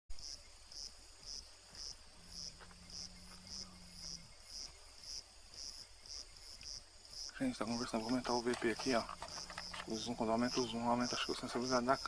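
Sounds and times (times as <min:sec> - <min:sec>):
cricket chirping: 0:00.1 - 0:12.0
faint low hum: 0:00.4 - 0:12.0.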